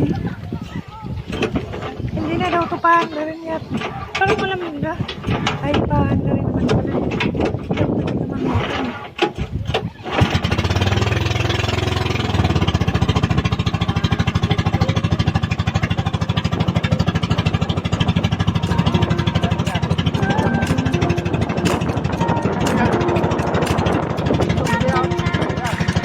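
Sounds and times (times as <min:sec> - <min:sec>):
small boat engine puttering: 0:01.2 - 0:26.0.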